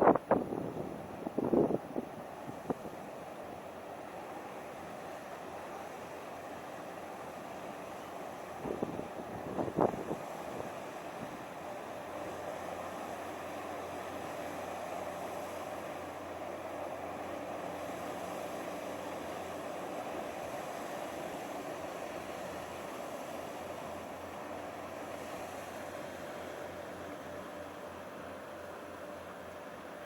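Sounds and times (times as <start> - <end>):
boat engines running: 0.0 - 30.0.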